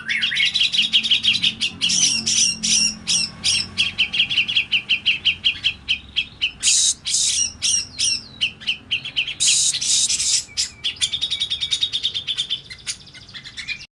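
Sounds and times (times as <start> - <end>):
bird chirping: 0.0 - 13.9
fast chattering bird trill: 0.0 - 13.9
harsh rasping bird calls: 0.0 - 13.9.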